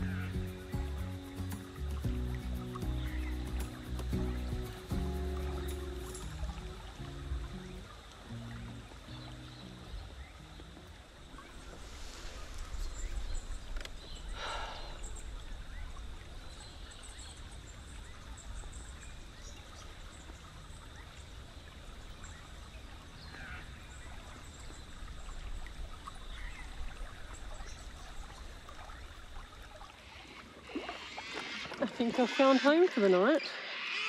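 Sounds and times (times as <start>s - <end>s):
water trickling: 0.0s - 34.0s.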